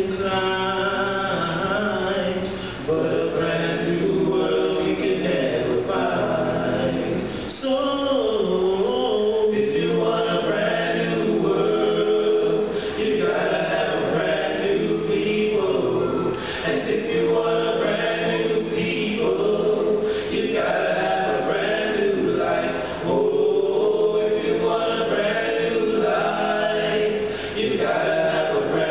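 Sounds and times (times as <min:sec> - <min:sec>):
male vocal group singing a cappella: 0:00.0 - 0:28.9.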